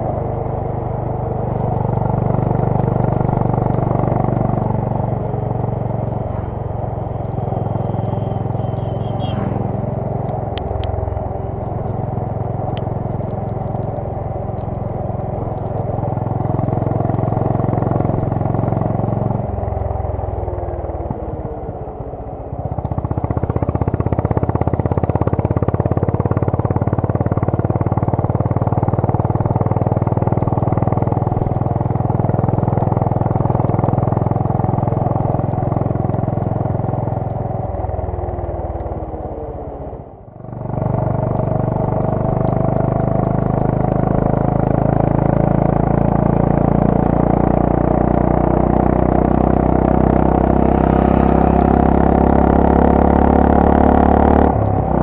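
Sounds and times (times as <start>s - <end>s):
motorcycle engine and exhaust: 0.0s - 55.0s.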